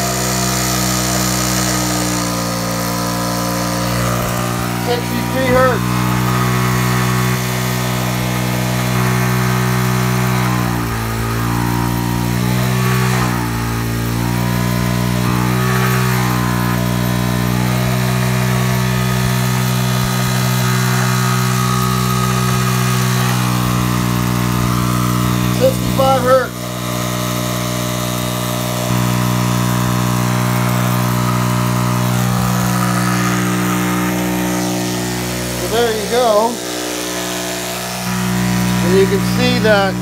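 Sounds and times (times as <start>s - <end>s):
electrical hum: 1.2s - 40.0s.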